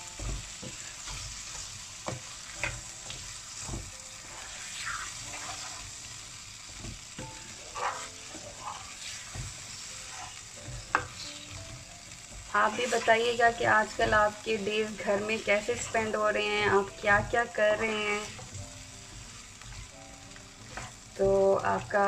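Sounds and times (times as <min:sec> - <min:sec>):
spatula knocking and scraping pan: 0:00.0 - 0:06.0, 0:06.6 - 0:19.9, 0:20.6 - 0:21.9
potatoes sizzling in a frying pan: 0:00.0 - 0:22.0.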